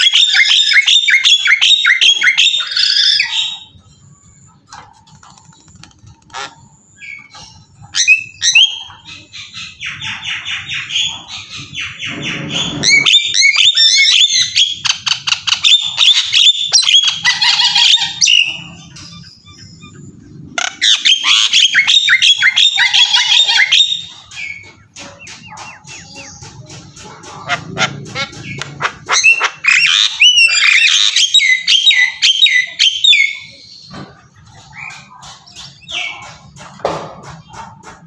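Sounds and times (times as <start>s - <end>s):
birds chirping rapidly: 0.0s - 38.0s.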